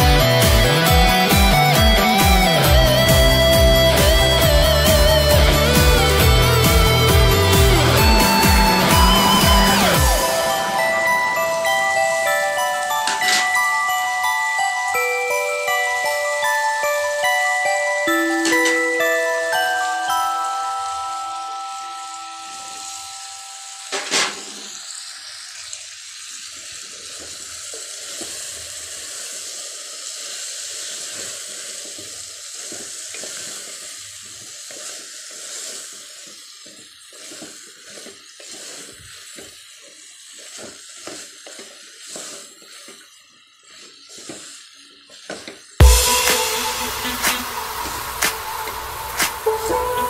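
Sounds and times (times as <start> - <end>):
vegetables sizzling in hot oil: 0.0 - 17.6, 18.4 - 50.0.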